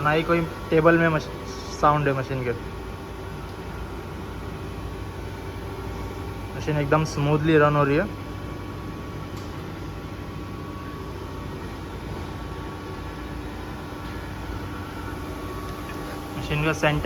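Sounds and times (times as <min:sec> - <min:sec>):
grinding machine humming: 0:00.0 - 0:17.0.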